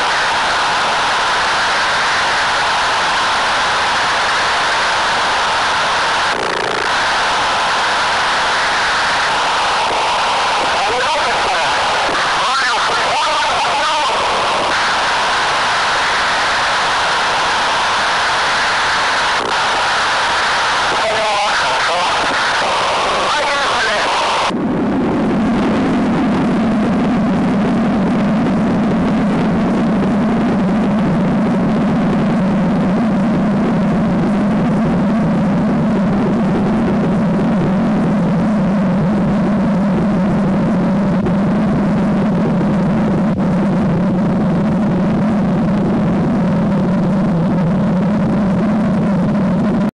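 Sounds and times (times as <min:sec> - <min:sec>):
rocket engines roaring: 0:00.0 - 0:49.9.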